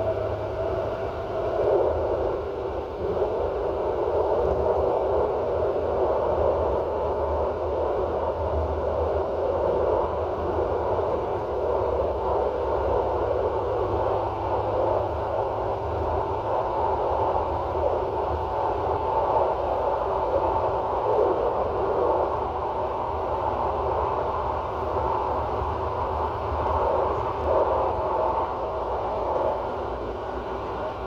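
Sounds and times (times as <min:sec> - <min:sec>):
train running hiss and rumble: 0:00.0 - 0:31.0.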